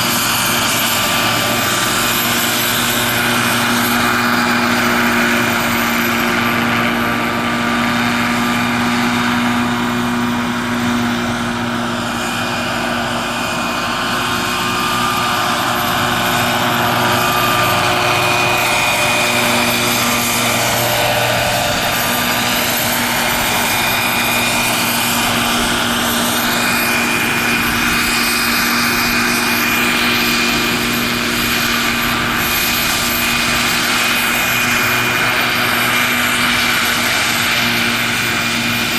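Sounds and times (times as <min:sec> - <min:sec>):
model helicopter rotor whine: 0:00.0 - 0:38.9.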